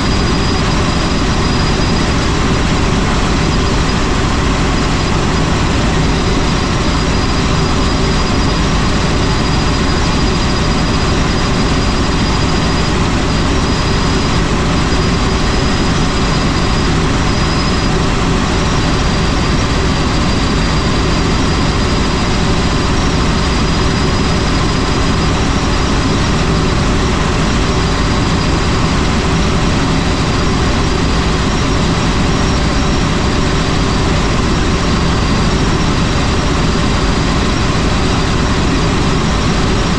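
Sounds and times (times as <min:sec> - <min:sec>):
faint high whine: 0:00.0 - 0:39.9
helicopter engine and rotor: 0:00.0 - 0:39.9.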